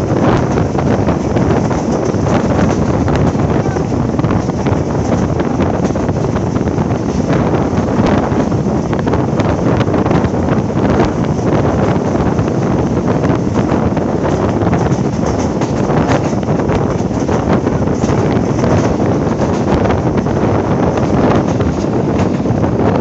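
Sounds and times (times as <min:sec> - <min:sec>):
train wheels on rails: 0:00.0 - 0:23.0
wind rushing on microphone: 0:00.0 - 0:23.0.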